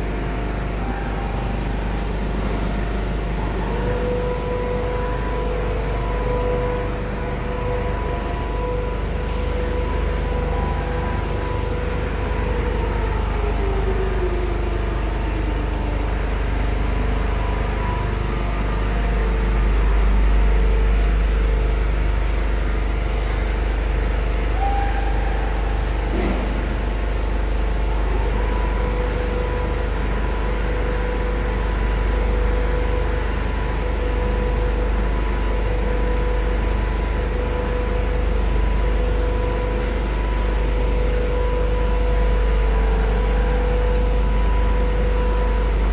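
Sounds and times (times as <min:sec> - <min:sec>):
constant hum: 0:00.0 - 0:45.9
industrial machine drone: 0:00.0 - 0:45.9
machine whine falling in pitch: 0:00.0 - 0:45.9.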